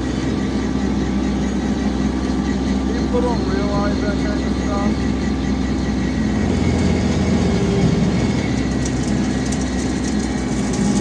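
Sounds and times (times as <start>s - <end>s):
faint steady whine: 0.0s - 11.0s
tractor engine drone: 0.0s - 11.0s.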